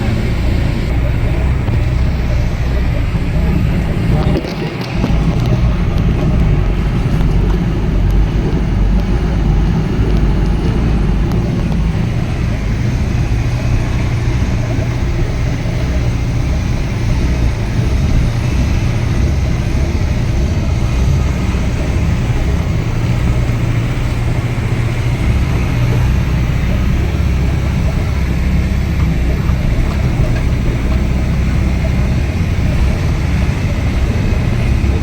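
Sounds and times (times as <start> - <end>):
heavy vehicle engine running: 0.0 - 35.0.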